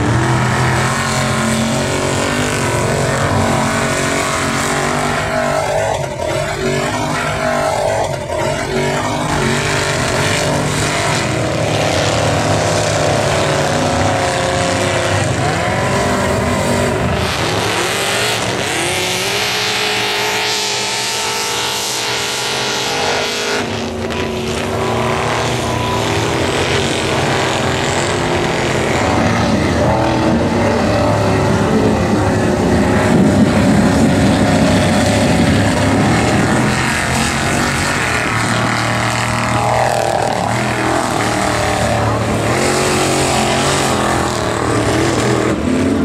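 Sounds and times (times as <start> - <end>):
truck engine running hard: 0.0 - 46.0.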